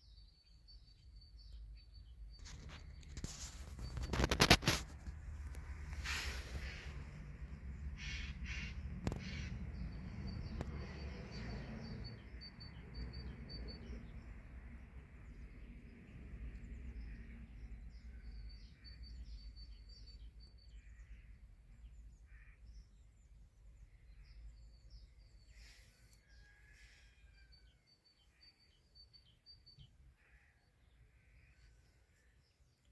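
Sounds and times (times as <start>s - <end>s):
bird chirping: 0.0s - 4.8s, 6.0s - 14.5s, 15.2s - 26.6s, 27.3s - 32.9s.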